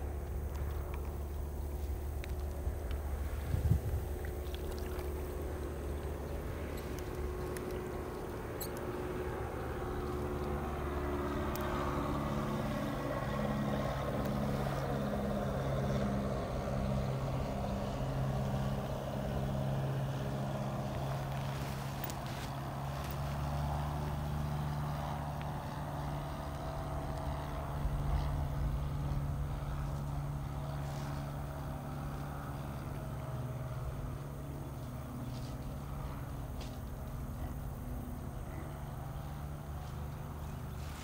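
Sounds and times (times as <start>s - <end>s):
distant engine droning: 0.0s - 41.0s.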